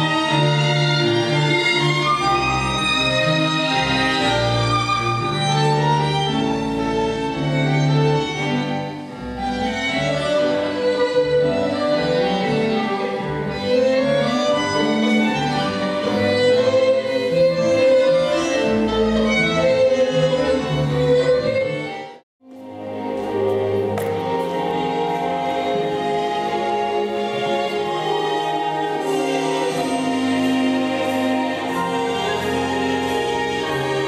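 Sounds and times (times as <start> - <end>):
violin and strings music: 0.0 - 34.0.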